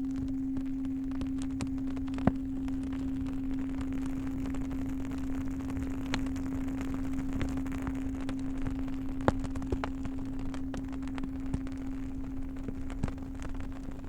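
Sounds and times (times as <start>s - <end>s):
crackling wood fire: 0.0s - 14.0s
singing bowl humming: 0.0s - 14.0s.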